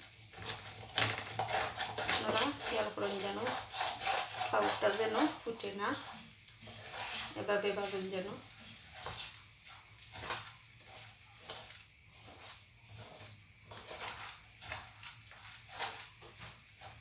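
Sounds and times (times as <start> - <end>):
spatula scraping rice in pan: 0.0 - 17.0.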